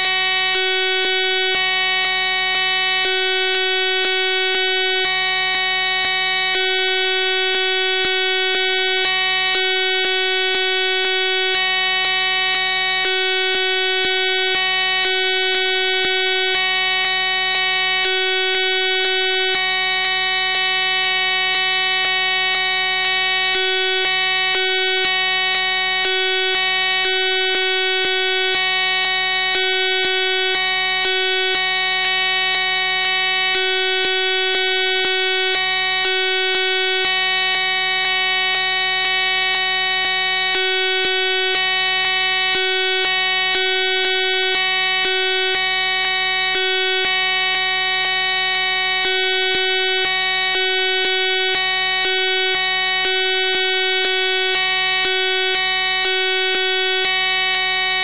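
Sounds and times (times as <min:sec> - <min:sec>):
electronic buzzing tone: 0:00.0 - 0:58.0.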